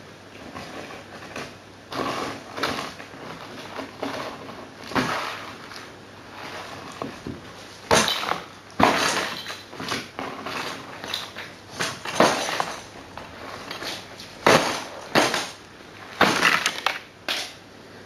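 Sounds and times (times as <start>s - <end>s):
objects rustling and scraping: 0.2s - 17.6s.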